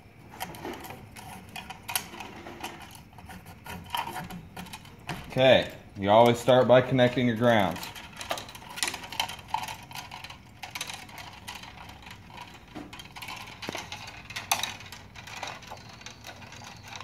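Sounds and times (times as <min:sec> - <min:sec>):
wires rattling against switch box: 0:00.3 - 0:17.0.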